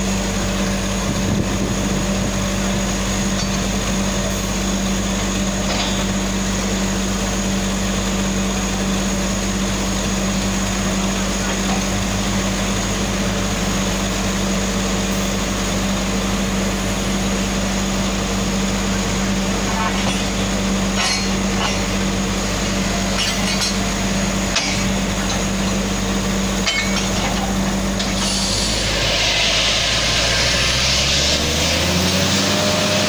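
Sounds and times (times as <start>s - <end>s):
drilling rig engine drone: 0.0s - 33.0s.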